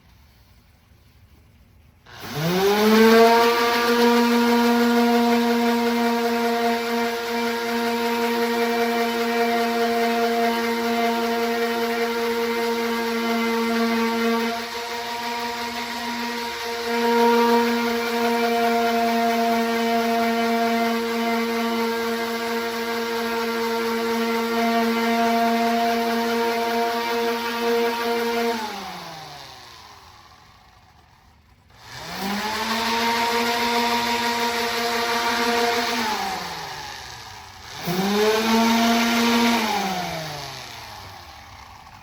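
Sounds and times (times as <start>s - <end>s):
orbital sander whining: 2.1s - 42.0s.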